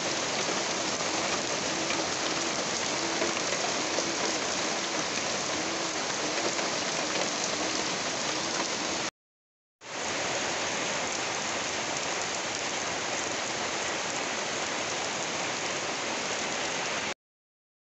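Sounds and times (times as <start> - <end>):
heavy rain pouring: 0.0 - 9.1, 9.9 - 17.2
rain splashing on puddles: 0.0 - 9.1, 9.8 - 17.2
water streaming off a roof: 0.0 - 9.1, 9.8 - 17.2.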